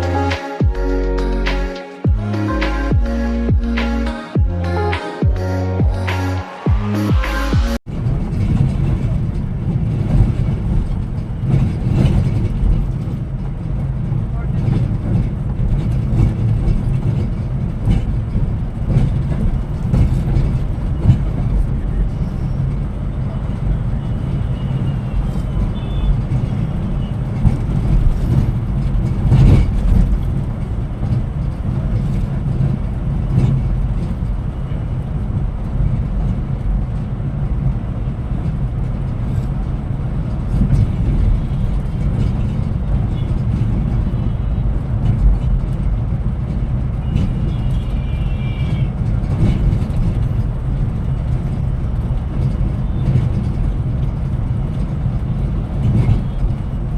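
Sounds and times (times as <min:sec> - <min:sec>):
coach engine and road rumble: 0:00.0 - 0:56.9.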